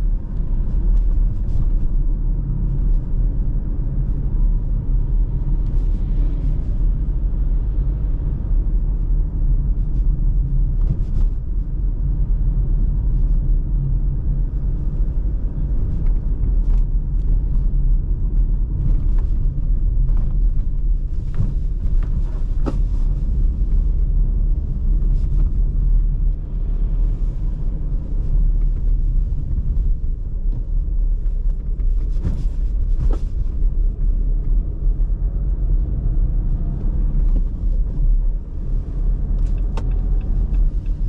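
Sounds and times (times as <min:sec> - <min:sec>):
car driving rumble: 0:00.0 - 0:41.0.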